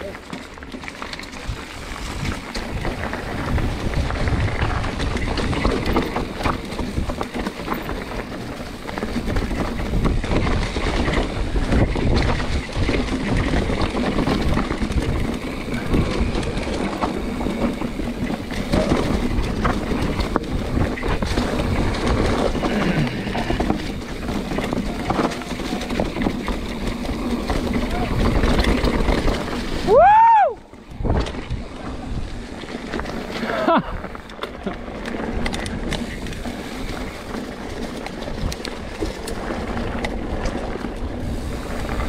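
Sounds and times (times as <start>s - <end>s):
bike clicks and knocks: 0.0s - 42.0s
tyres rolling through dry leaves: 0.0s - 42.0s
wind rumble on microphone: 0.0s - 42.0s.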